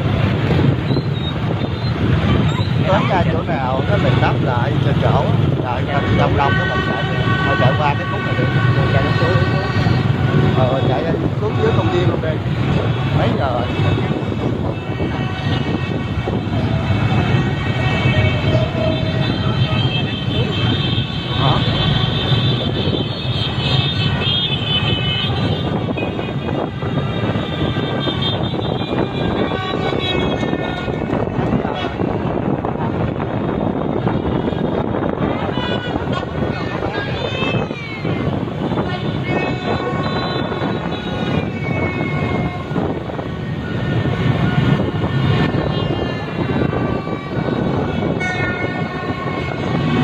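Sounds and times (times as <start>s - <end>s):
horns honking: 0.0s - 50.0s
motorbike traffic: 0.0s - 50.0s
wind buffeting microphone: 0.0s - 50.0s.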